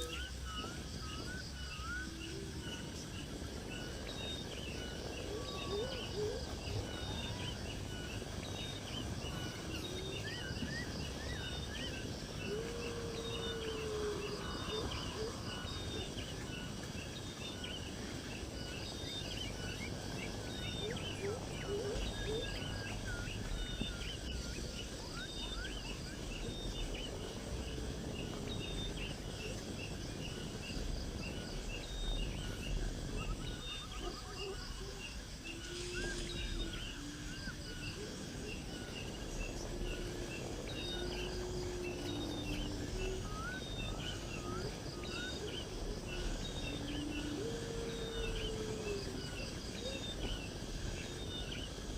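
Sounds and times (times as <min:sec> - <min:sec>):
insect noise: 0:00.0 - 0:51.9
low background rumble: 0:00.0 - 0:51.9
lower longer bird calls: 0:00.0 - 0:51.9
small birds chirping: 0:00.0 - 0:51.9.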